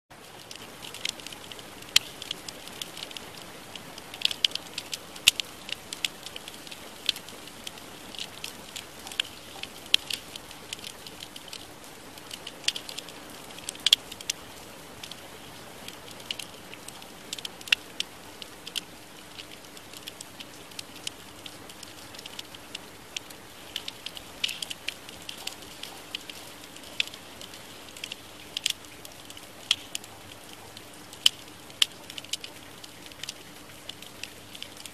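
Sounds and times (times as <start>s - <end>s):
crackling pops and clicks: 0.1s - 34.9s
faint steady hum: 0.1s - 34.9s.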